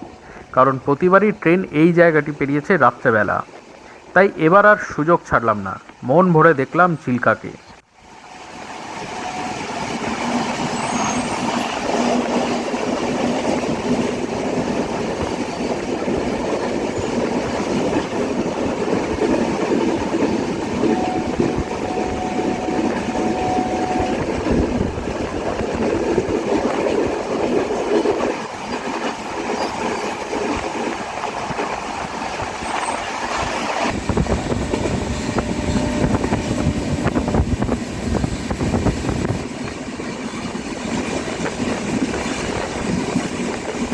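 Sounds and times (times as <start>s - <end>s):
train wheels rumbling on track: 8.0s - 43.9s.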